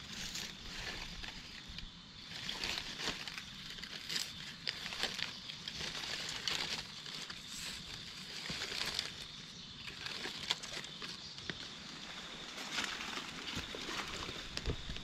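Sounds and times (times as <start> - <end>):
footsteps on dry leaves and twigs: 0.0 - 15.0
steady high-pitched hiss: 0.0 - 15.0.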